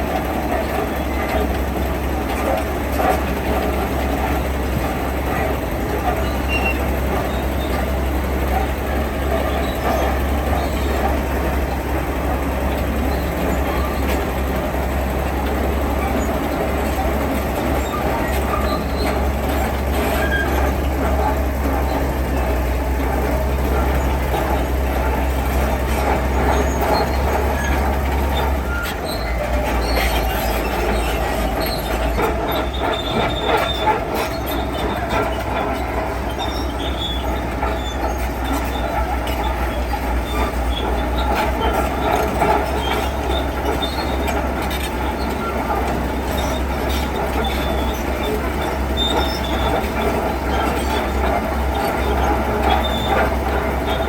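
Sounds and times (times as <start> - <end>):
diesel machinery rumble: 0.0 - 54.0
metallic squeals and clanks: 2.3 - 11.7, 15.4 - 54.0.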